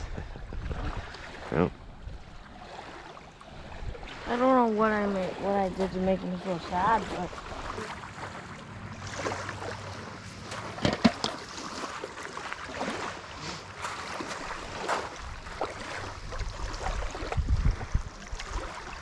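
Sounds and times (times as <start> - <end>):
waves lapping on pebbles: 0.0 - 19.0.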